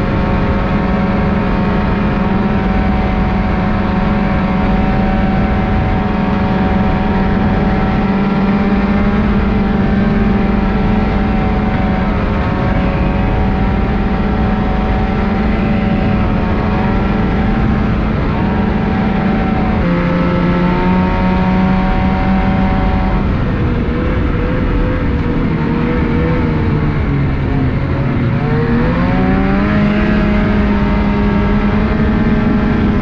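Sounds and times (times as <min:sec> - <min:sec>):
snowmobile engine running: 0:00.0 - 0:33.0
track and wind noise: 0:00.0 - 0:33.0.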